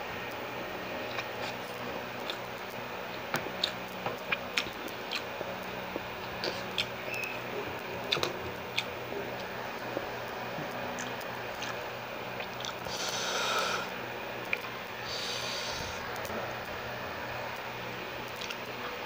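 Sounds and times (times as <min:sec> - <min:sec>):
faint steady hum: 0:00.0 - 0:19.0
close-miked chewing: 0:00.9 - 0:16.8, 0:17.4 - 0:19.0.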